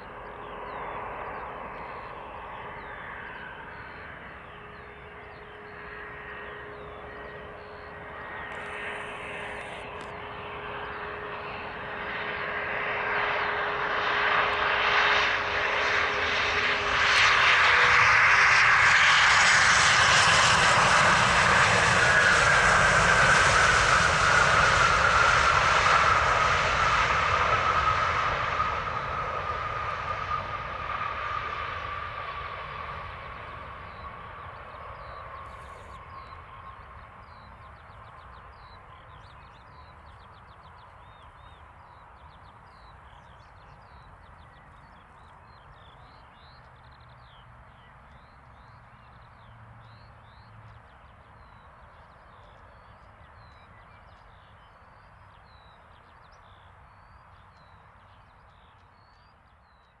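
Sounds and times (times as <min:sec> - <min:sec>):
birds chirping: 0:00.0 - 1:00.0
jet engine whine: 0:00.0 - 1:00.0.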